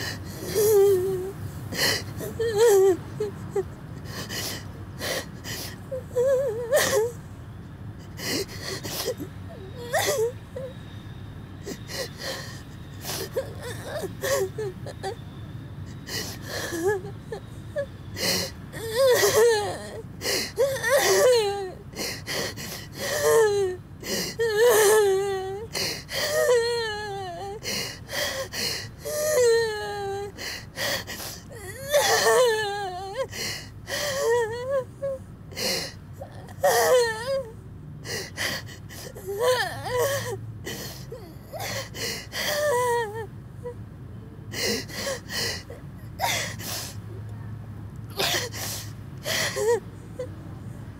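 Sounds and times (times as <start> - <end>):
woman sobbing and wailing: 0.0 - 7.2, 8.0 - 10.7, 11.6 - 15.2, 15.9 - 43.8, 44.4 - 47.3, 48.1 - 50.4
low background hum: 0.0 - 50.9.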